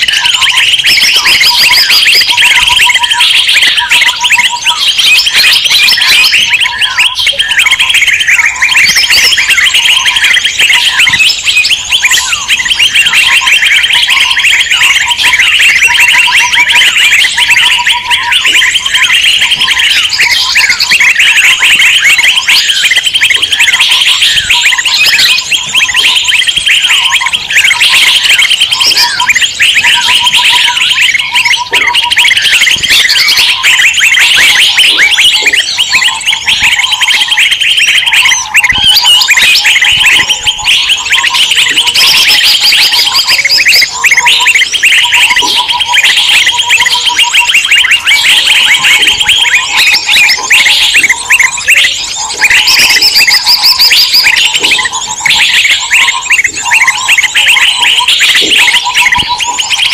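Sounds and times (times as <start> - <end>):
bird piping notes: 0.0 - 59.9
songbirds chattering: 0.0 - 59.9.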